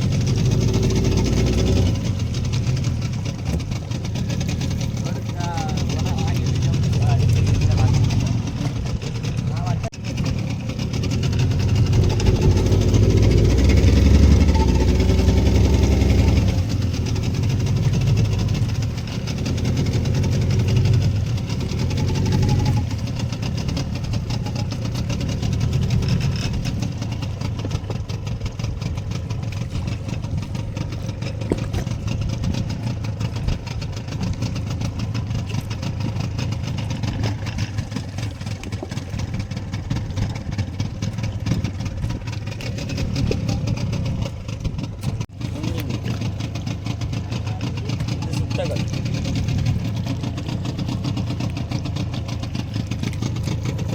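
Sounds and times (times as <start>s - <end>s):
boat engine running: 0.0s - 53.9s.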